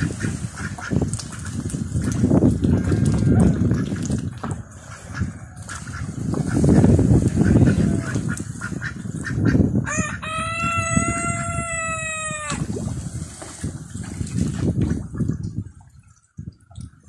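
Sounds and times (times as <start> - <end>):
ducks splashing in water: 0.0 - 17.0.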